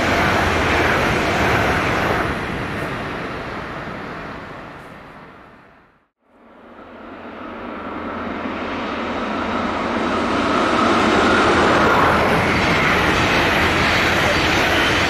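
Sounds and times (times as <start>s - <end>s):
train wheels rushing on rail: 0.0s - 5.8s, 6.6s - 15.0s.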